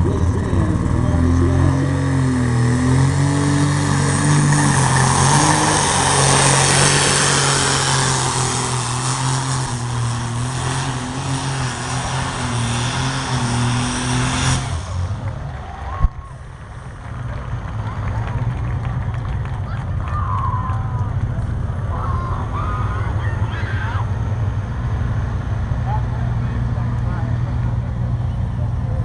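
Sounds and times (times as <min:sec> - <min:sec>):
engine running at high revs: 0:00.0 - 0:29.0.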